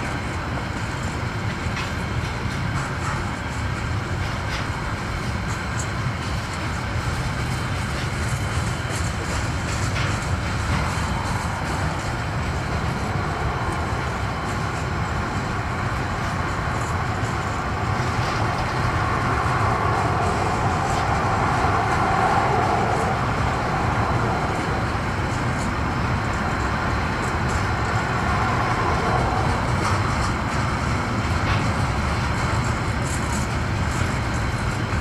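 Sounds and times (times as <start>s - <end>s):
steel wheels rumbling on rails: 0.0s - 35.0s.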